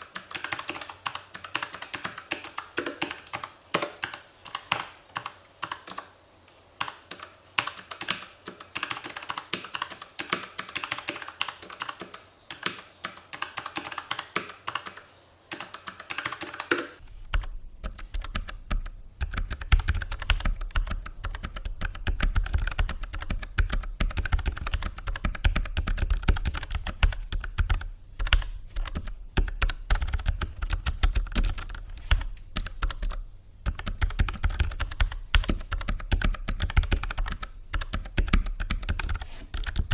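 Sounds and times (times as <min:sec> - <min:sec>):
fast clicky keyboard typing: 0:00.0 - 0:06.1, 0:06.8 - 0:39.9.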